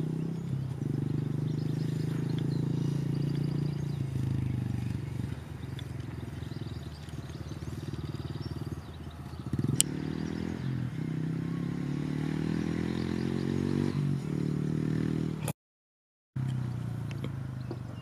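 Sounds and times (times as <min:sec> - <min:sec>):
motorbike engine revving: 0:00.0 - 0:15.5.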